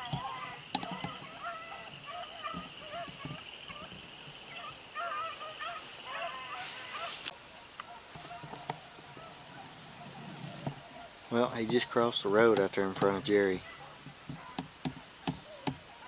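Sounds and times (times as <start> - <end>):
dogs baying and yelping: 0.0 - 11.3, 13.6 - 16.0.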